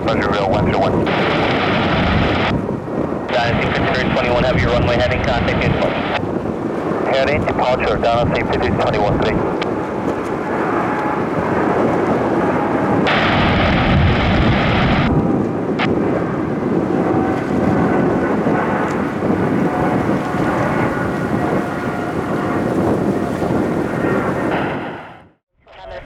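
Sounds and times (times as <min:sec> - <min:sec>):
jet airliner engines roaring: 0:00.0 - 0:26.0.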